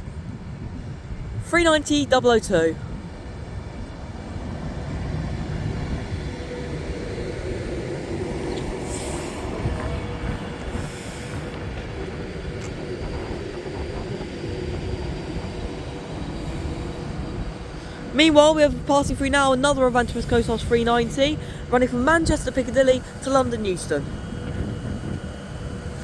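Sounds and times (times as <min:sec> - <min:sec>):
electric train rumble: 0:00.0 - 0:26.0
faint steady whine: 0:00.0 - 0:26.0.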